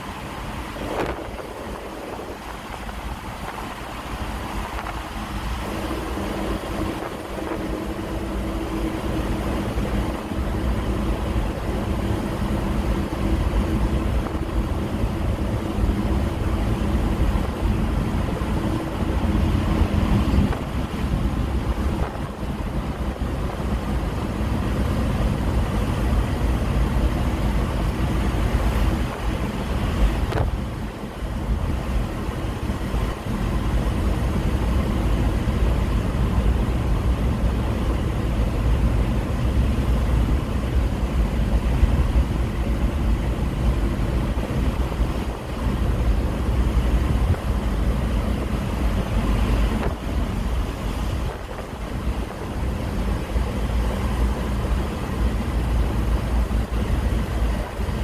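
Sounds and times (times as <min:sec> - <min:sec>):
engine and tyres rumbling: 0:00.0 - 0:58.0
road hiss: 0:00.0 - 0:58.0.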